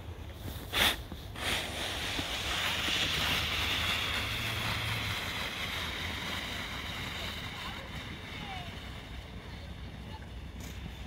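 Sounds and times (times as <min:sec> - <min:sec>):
snowboard scraping icy snow: 0:00.1 - 0:11.0.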